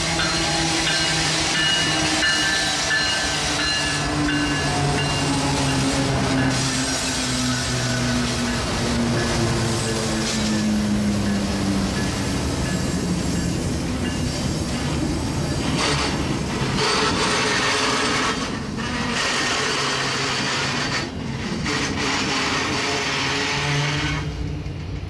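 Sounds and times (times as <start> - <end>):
freight train rumbling on rails: 0.0 - 25.0
locomotive diesel engine hum: 0.0 - 25.0.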